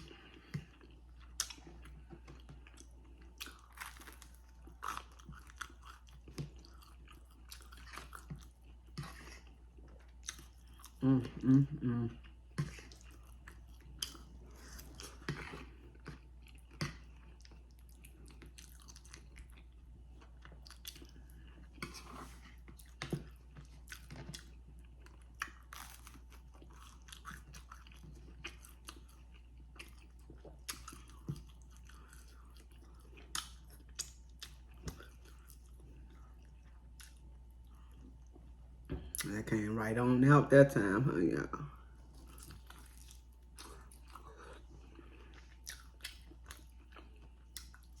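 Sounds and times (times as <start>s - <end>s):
person chewing crispy chicken: 0.0s - 38.4s, 42.0s - 48.0s.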